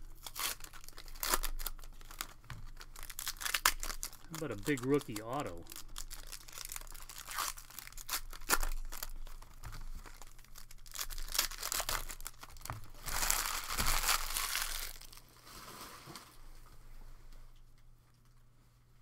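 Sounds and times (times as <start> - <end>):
foil wrapper tearing and crinkling: 0.0 - 16.2.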